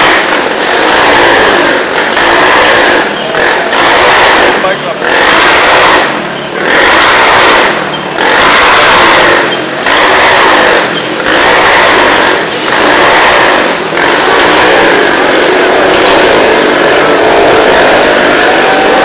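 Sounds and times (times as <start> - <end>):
motorcycle engine running hard: 0.0 - 19.0.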